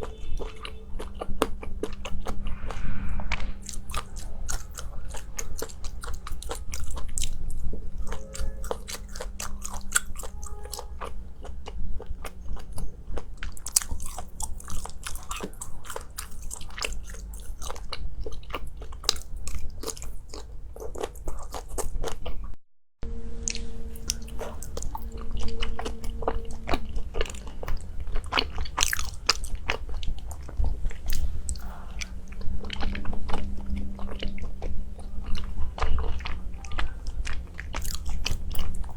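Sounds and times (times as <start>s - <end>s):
person chewing crunchy food: 0.0s - 2.8s, 3.4s - 22.6s, 23.5s - 38.9s.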